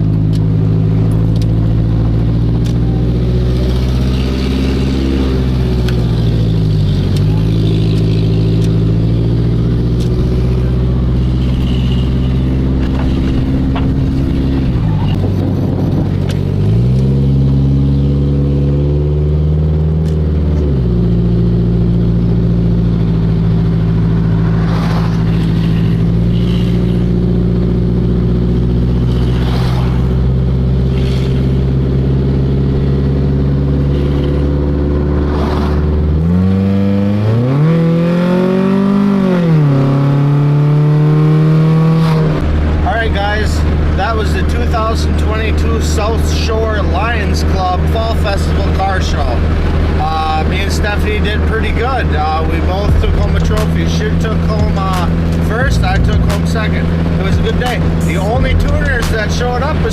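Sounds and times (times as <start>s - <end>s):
car engine droning: 0.0s - 59.9s.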